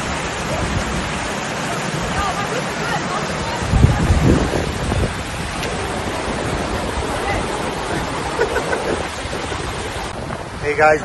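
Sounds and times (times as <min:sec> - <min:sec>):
low rumbles: 0:00.0 - 0:11.0
stream rushing over rocks: 0:00.0 - 0:11.0.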